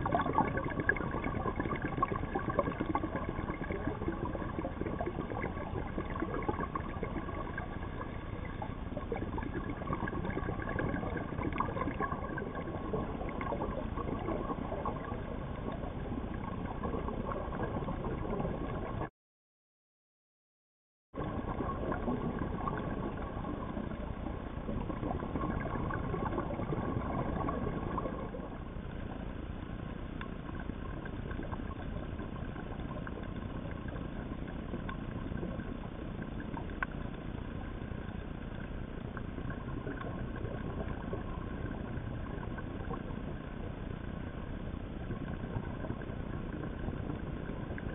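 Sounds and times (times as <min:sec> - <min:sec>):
underwater hum and hiss: 0:00.0 - 0:19.1, 0:21.2 - 0:47.9.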